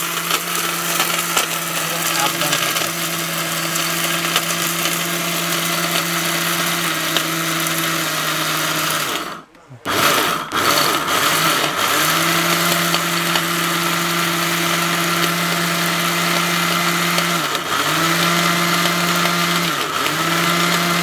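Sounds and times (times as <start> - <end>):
blender grinding spice: 0.0 - 21.0.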